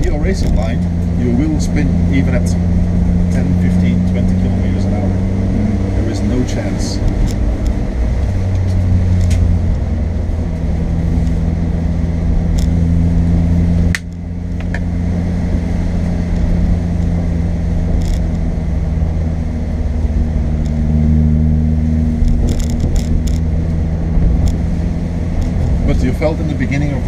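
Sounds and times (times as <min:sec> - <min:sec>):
car engine pulling: 0:00.0 - 0:27.0
road noise: 0:00.0 - 0:27.0.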